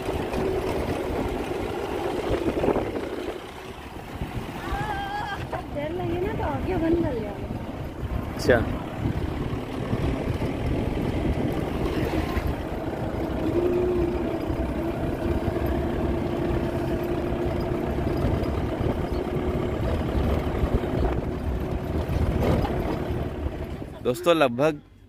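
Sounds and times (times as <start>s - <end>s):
low rumble: 0.0s - 24.1s
jeep engine running: 0.0s - 25.0s.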